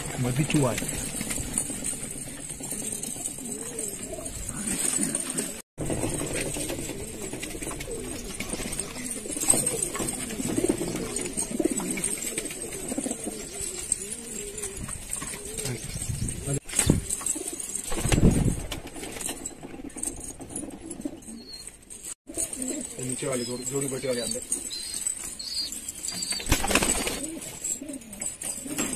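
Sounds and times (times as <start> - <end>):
pigeons cooing: 0.0 - 18.2, 19.3 - 28.9.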